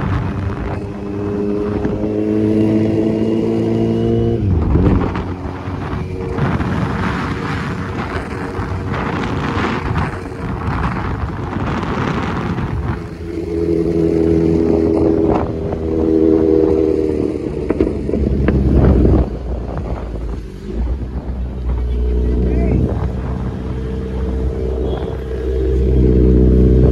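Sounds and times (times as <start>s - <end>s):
motorcycle engine at low speed: 0.0s - 26.9s
wind on microphone: 0.0s - 26.9s.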